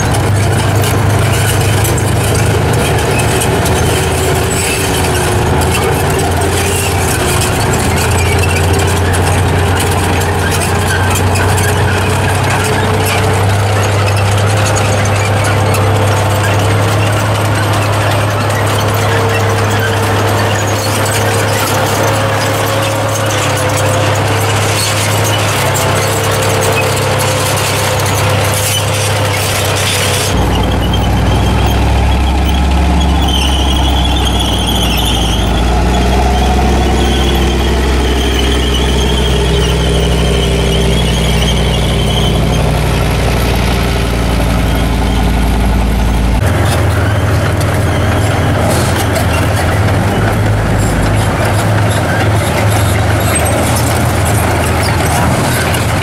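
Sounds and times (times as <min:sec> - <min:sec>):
running gear squealing: 0:00.0 - 0:56.0
tank diesel engines: 0:00.0 - 0:56.0.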